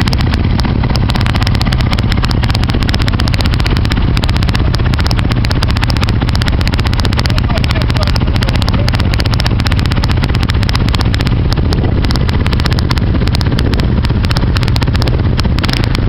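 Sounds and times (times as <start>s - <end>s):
quad engine running loud: 0.0s - 16.0s.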